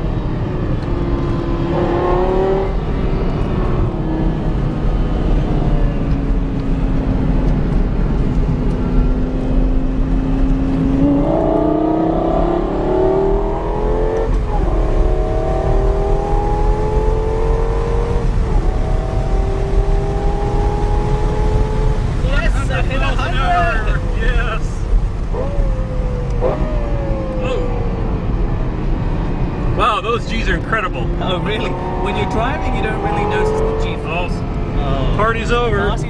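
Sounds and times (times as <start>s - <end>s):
car engine accelerating: 0.0s - 36.0s
road and wind rumble: 0.0s - 36.0s.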